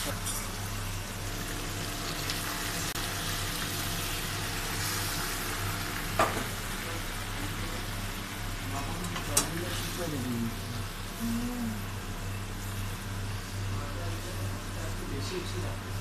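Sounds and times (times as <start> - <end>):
oil sizzling in a wok: 0.0 - 16.0.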